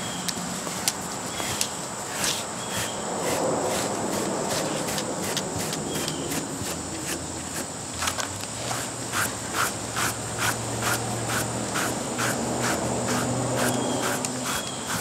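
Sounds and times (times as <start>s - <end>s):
crickets chirping: 0.0s - 15.0s
rubber brush rubbing dog's coat: 0.5s - 7.7s, 8.6s - 15.0s.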